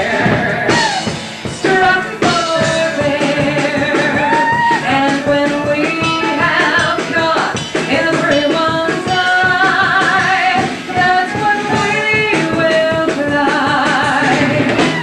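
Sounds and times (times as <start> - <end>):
drum kit beat: 0.0 - 15.0
live band music: 0.0 - 15.0.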